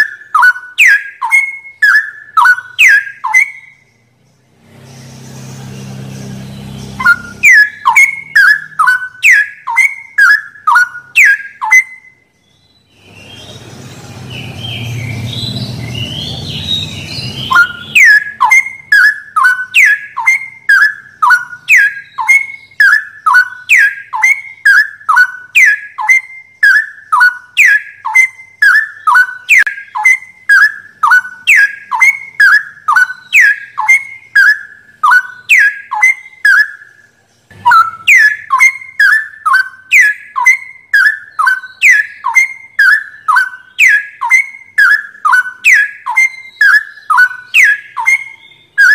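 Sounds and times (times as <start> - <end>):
songbird calling sharp descending notes: 0.0 - 48.9.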